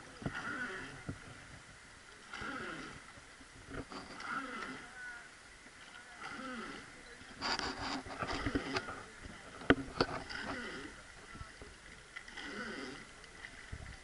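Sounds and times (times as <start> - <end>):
oar splashing through water: 0.0 - 14.0.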